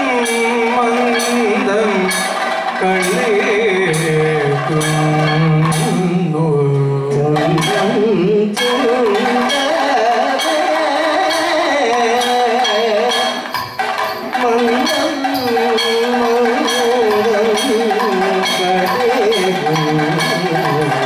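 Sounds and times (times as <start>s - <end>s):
men singing ornamented melody: 0.0s - 13.6s, 14.2s - 21.0s
drum strokes: 0.0s - 21.0s.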